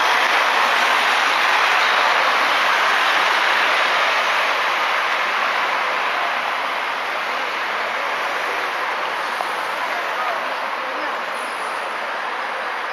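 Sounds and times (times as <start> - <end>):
cars passing: 0.0 - 12.9.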